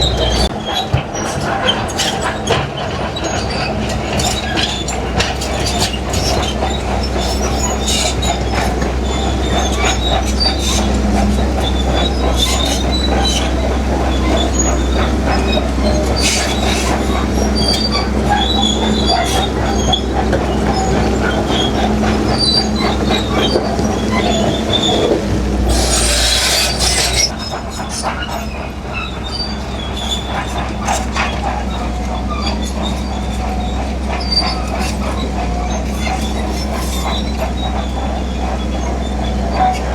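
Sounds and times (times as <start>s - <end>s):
crawler tracks clanking and squeaking: 0.0s - 39.9s
diesel engine under load: 0.0s - 39.9s.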